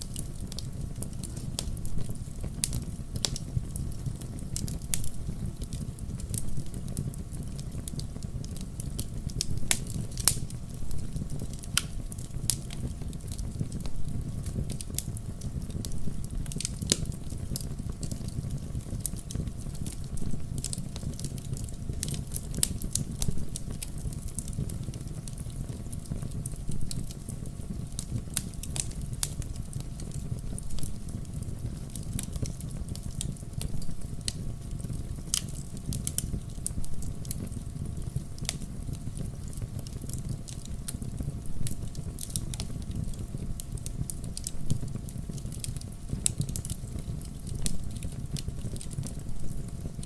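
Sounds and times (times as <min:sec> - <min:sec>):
campfire low rumble: 0:00.0 - 0:50.0
fire crackles and pops: 0:00.0 - 0:50.0.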